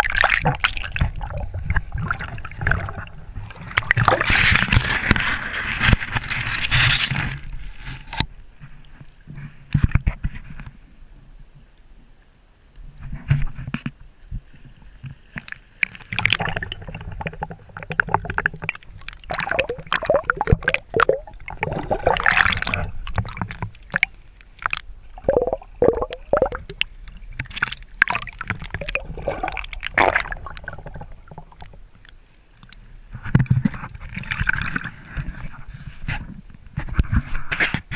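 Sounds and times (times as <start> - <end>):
water splashing and sloshing: 0.0 - 10.4, 13.3 - 37.9.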